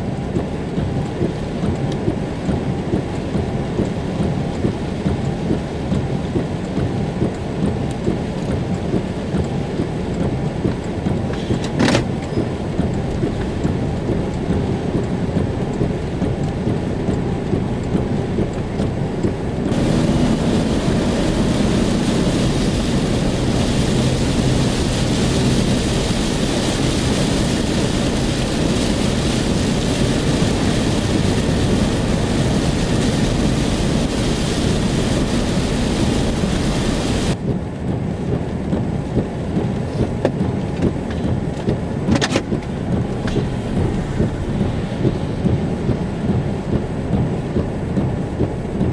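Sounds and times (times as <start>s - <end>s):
car road and engine rumble: 0.0s - 48.9s
heavy rain hitting car: 0.0s - 48.9s.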